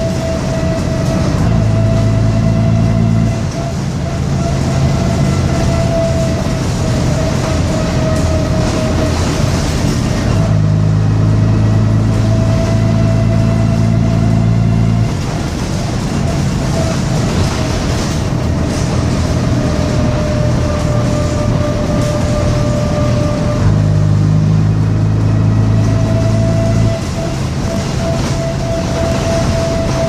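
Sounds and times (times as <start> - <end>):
bus diesel engine moving: 0.0 - 30.0.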